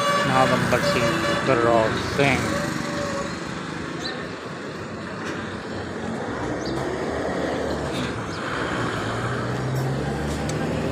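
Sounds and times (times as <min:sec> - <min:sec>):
auto-rickshaw engine: 0:00.0 - 0:10.9
passing vehicle engines: 0:00.0 - 0:10.9
steady road noise: 0:00.0 - 0:10.9.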